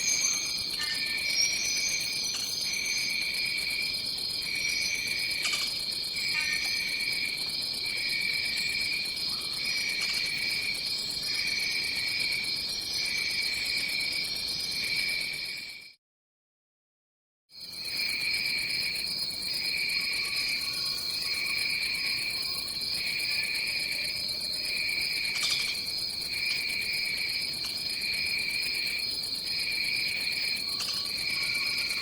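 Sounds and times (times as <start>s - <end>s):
pulsing lower insect trill: 0.0s - 12.1s, 17.8s - 32.0s.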